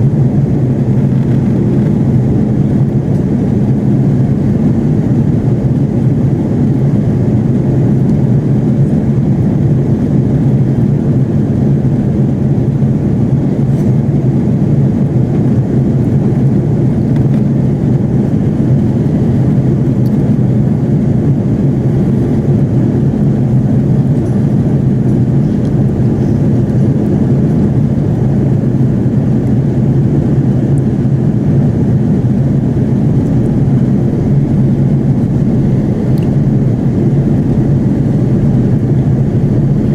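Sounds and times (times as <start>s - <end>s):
airplane cabin engine noise: 0.0s - 39.9s.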